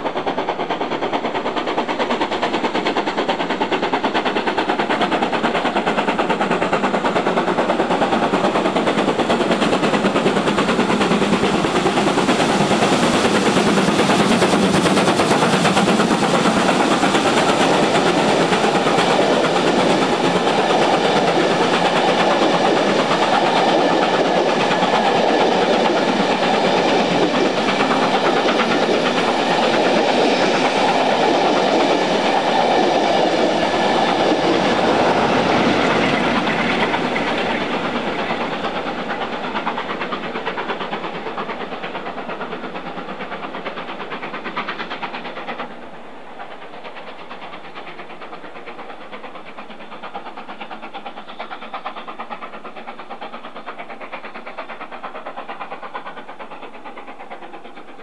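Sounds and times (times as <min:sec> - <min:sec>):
train wheels clattering over joints: 0:00.0 - 0:58.0.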